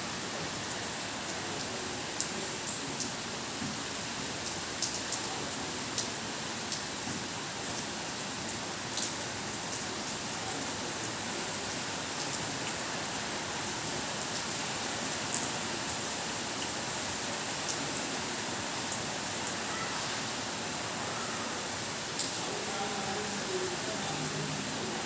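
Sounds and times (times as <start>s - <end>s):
rain pouring: 0.0s - 25.0s.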